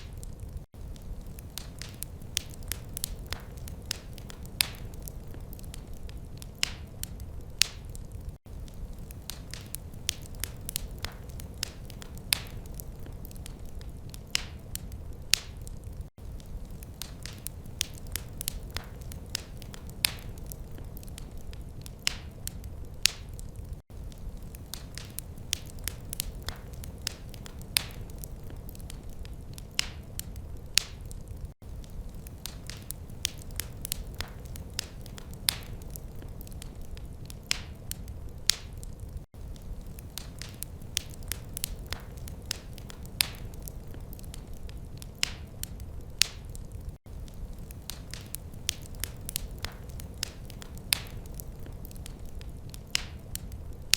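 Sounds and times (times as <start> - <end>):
wood fire crackling in fireplace: 0.0 - 53.9.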